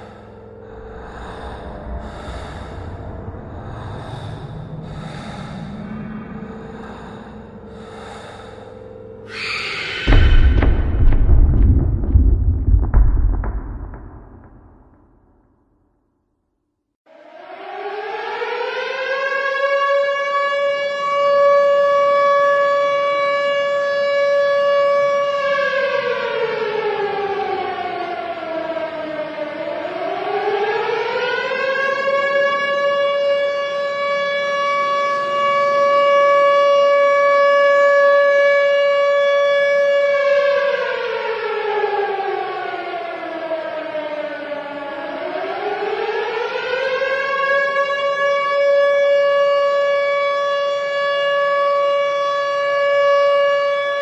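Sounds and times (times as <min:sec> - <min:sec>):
air-raid siren wailing: 0:00.0 - 0:10.8, 0:17.1 - 0:54.0.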